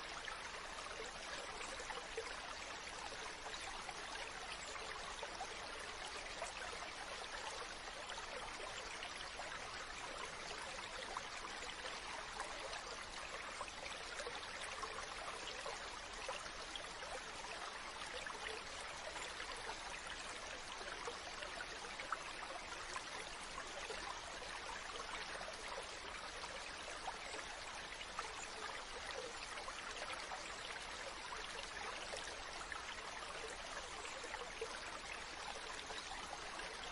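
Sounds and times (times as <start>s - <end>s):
stream water running: 0.0s - 36.9s.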